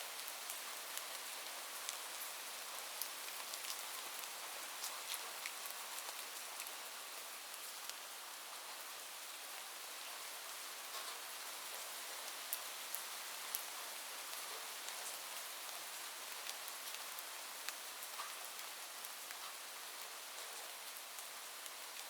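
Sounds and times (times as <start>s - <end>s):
raindrops ticking on surfaces: 0.1s - 22.0s.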